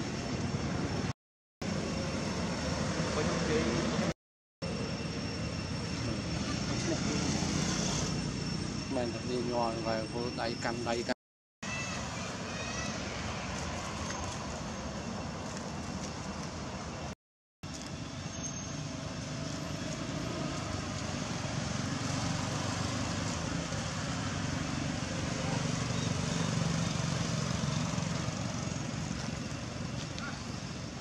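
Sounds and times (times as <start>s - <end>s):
distant road traffic rumble: 0.0s - 4.1s, 4.7s - 17.1s, 17.7s - 31.0s.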